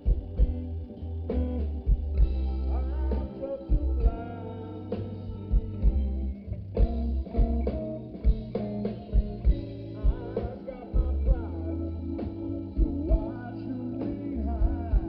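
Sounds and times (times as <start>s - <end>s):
bass line: 0.0s - 15.0s
guitar: 0.0s - 15.0s
steady drum beat: 0.0s - 15.0s.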